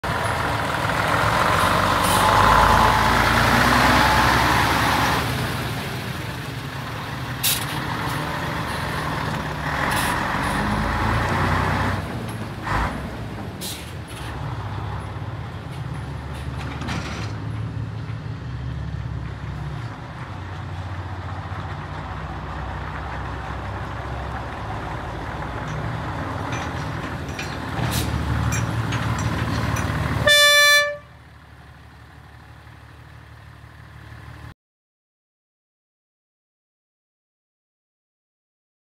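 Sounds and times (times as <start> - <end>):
diesel truck engine running: 0.0 - 34.5.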